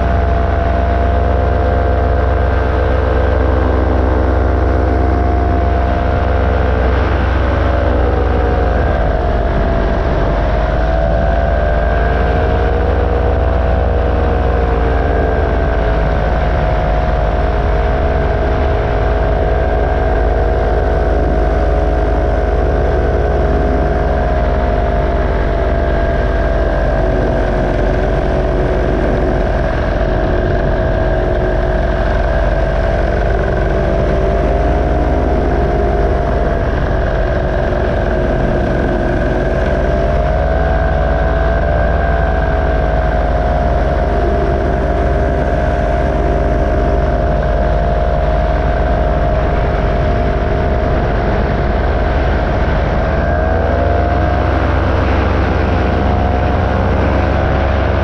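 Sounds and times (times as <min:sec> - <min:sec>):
paramotor engine drone: 0:00.0 - 0:58.0.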